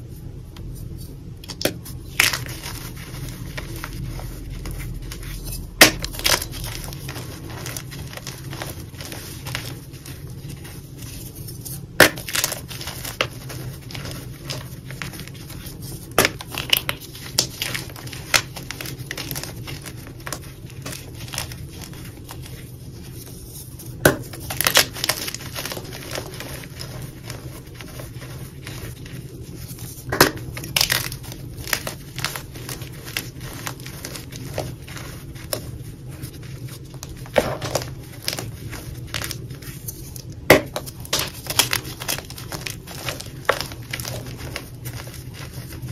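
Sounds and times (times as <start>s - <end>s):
chalk pieces cracking apart: 1.4s - 45.9s
chalk crunching by hand: 1.7s - 45.9s.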